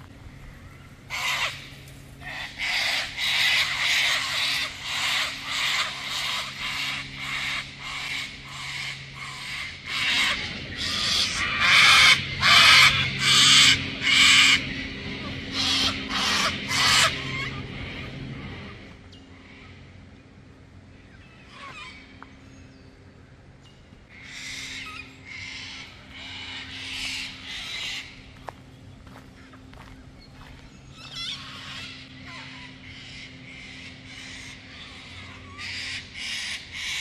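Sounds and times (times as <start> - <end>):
bird calling: 0.0 - 20.0, 20.8 - 37.0.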